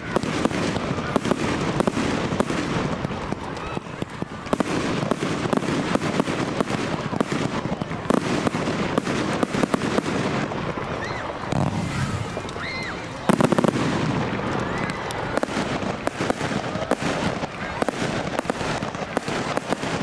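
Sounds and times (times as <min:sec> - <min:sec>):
fireworks crackling: 0:00.0 - 0:20.0
fireworks sharp bangs: 0:00.0 - 0:20.0.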